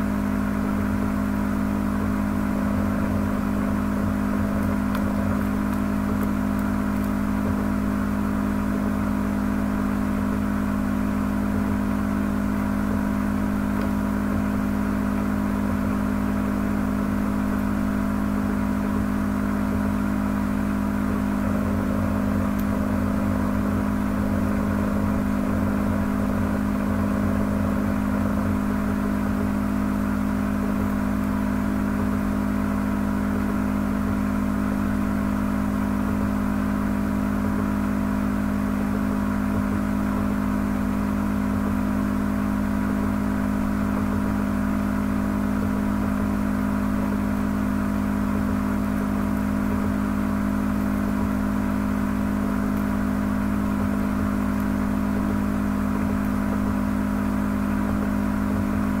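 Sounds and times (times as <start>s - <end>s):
motor humming and whirring: 0.0s - 59.0s.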